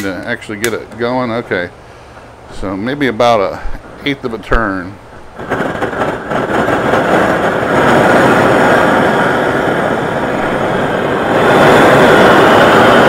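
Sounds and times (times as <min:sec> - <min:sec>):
propane torch jet flame: 0:00.0 - 0:13.0.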